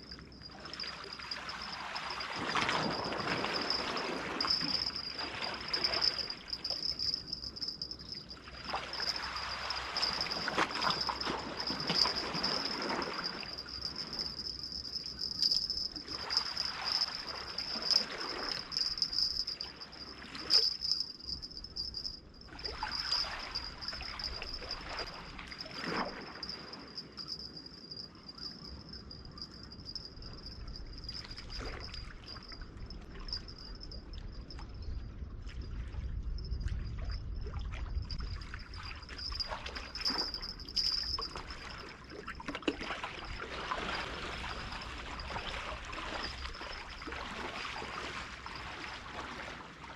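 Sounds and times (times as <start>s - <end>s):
water sloshing and splashing: 0.0s - 27.7s, 35.4s - 49.9s.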